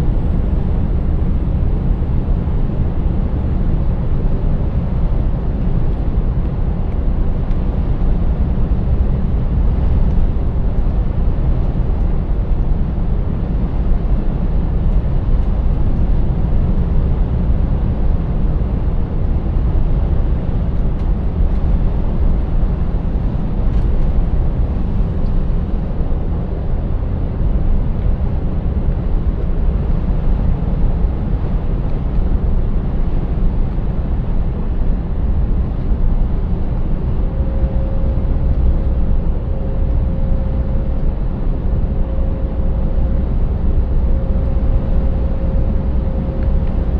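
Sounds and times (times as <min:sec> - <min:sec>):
road and tyre noise: 0:00.0 - 0:46.9.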